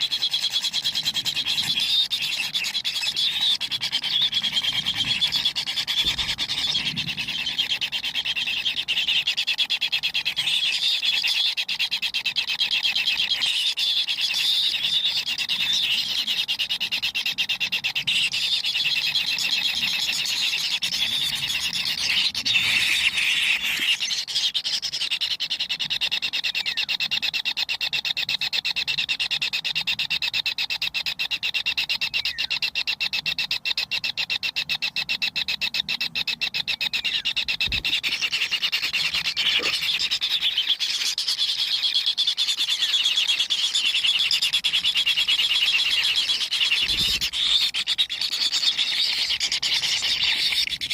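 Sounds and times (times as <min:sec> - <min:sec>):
chicks rasping begging call: 0:00.0 - 0:50.9.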